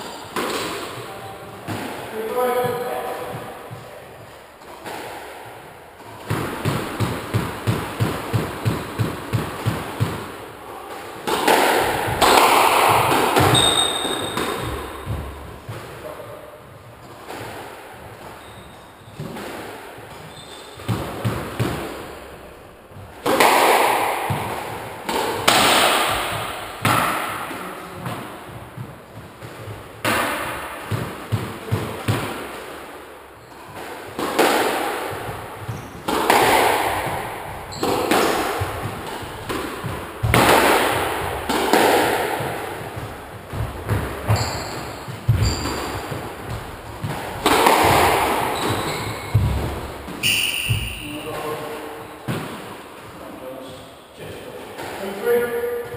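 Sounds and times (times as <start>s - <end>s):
squash ball hits echoing: 0.0s - 53.6s, 54.6s - 55.9s.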